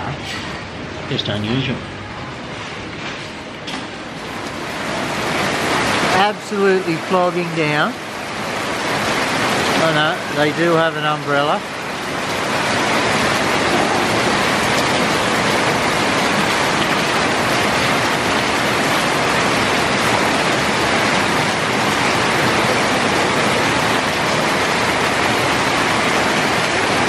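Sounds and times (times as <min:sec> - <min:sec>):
heavy rain on concrete and roofs: 0:00.0 - 0:27.0.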